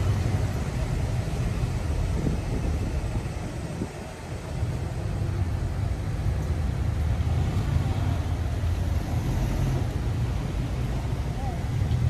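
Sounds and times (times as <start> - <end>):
cars idling in traffic: 0.0 - 12.0.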